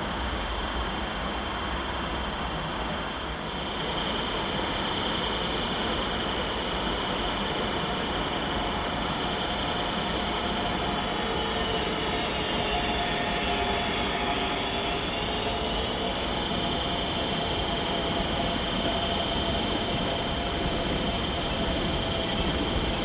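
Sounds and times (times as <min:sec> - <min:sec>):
electric locomotive hauling freight: 0:00.0 - 0:23.0.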